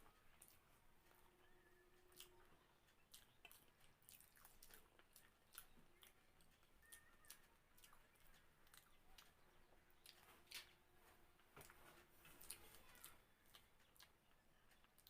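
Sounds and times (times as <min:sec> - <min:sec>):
chewing with mouth clicks: 0:00.1 - 0:10.9, 0:11.6 - 0:15.0.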